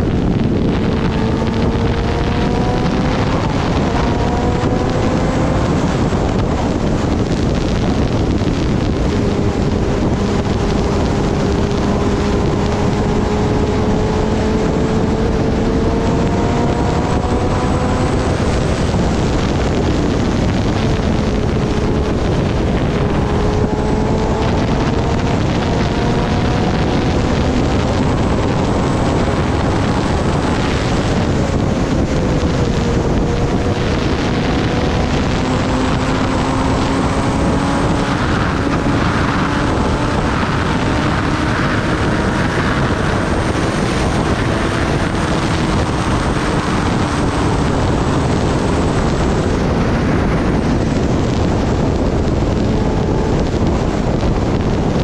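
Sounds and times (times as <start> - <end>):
motorcycle engine at high speed: 0.0 - 55.0
wind rush on microphone: 0.0 - 55.0.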